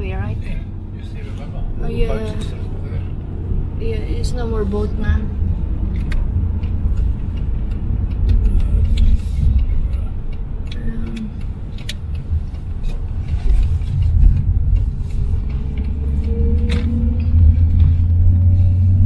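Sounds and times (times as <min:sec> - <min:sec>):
car engine rumble: 0:00.0 - 0:19.0
tyre noise on road: 0:00.0 - 0:19.0.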